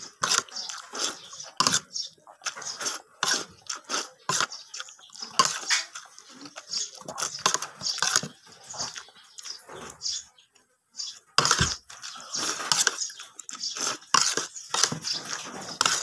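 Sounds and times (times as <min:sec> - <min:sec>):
wet chewing and lip-smacking: 0:00.0 - 0:09.7, 0:11.1 - 0:16.0.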